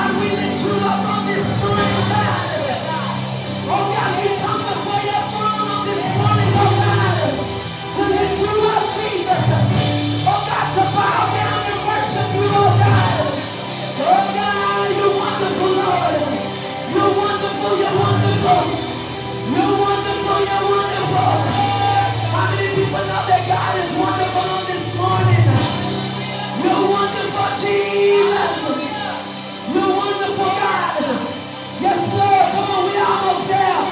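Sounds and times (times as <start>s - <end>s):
gospel band playing: 0.0s - 33.9s.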